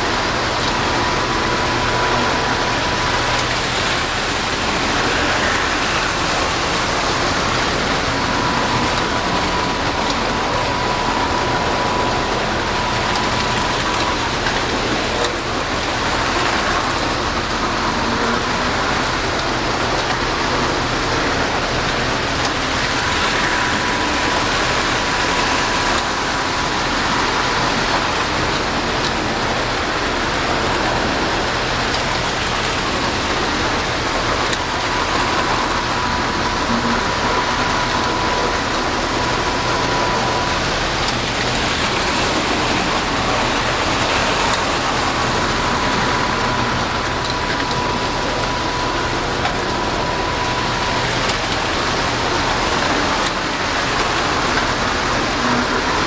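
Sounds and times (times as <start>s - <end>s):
thin whine: 0.0s - 56.0s
toy trains rattling on track: 0.0s - 56.0s.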